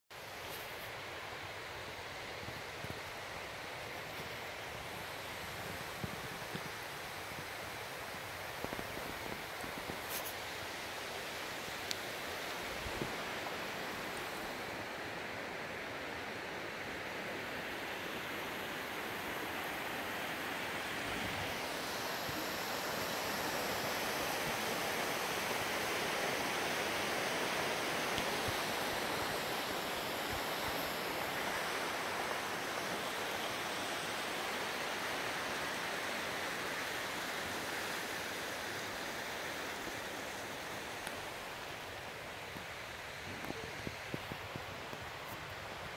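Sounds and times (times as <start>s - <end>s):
creek rushing: 0.2s - 45.9s.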